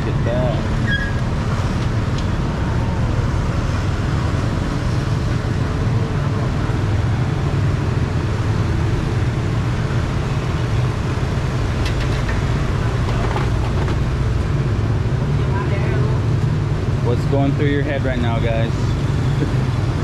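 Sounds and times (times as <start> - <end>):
gas burner roaring: 0.0 - 20.0.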